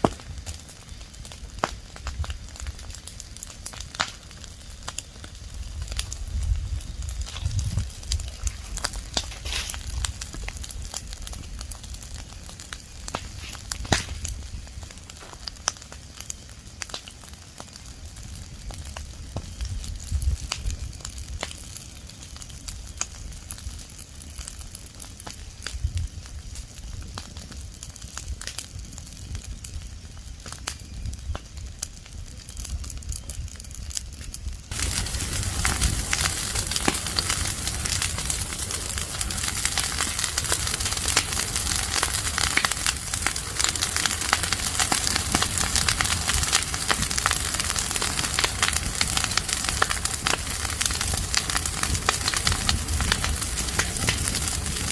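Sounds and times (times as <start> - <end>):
fire crackling and popping: 0.0 - 54.9.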